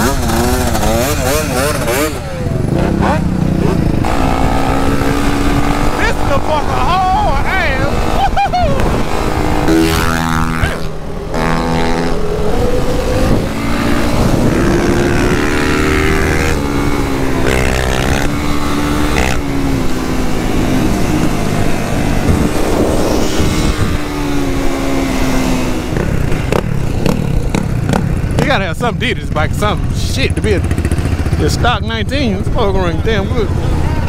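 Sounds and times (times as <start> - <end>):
quad engine running hard: 0.0 - 34.0
wind noise: 0.0 - 34.0.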